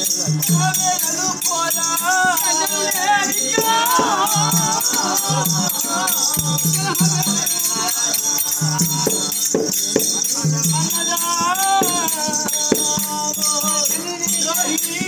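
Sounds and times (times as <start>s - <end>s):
person singing ornamented melody: 0.0s - 15.0s.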